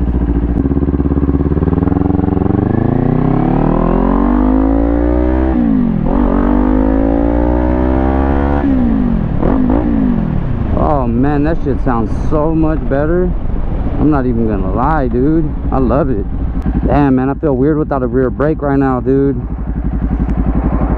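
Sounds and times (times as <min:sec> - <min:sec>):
motorcycle engine accelerating: 0:00.0 - 0:12.6, 0:13.3 - 0:20.9.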